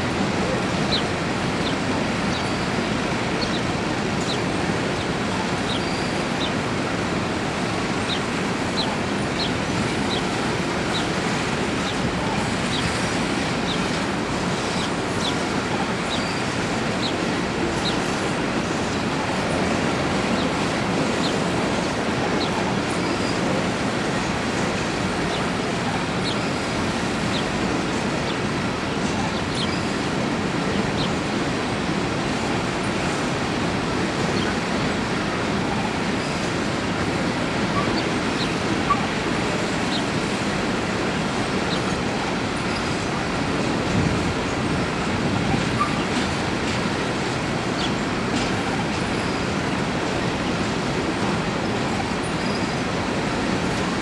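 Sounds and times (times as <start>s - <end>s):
train wheels rolling on track: 0.0s - 54.0s.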